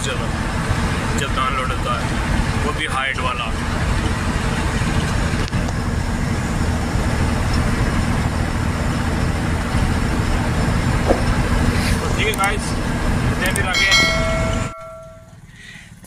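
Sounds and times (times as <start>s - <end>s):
truck engine drone: 0.0s - 16.0s
tyre and road noise: 0.0s - 16.0s.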